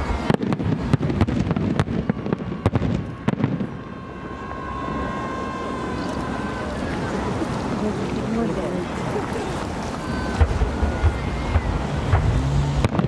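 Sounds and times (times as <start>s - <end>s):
fireworks bursts banging: 0.0s - 13.0s.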